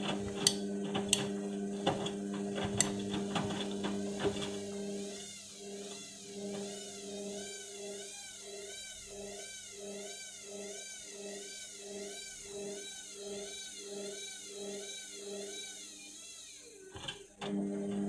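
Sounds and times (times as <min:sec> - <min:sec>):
washing machine motor whining: 0:00.0 - 0:18.0.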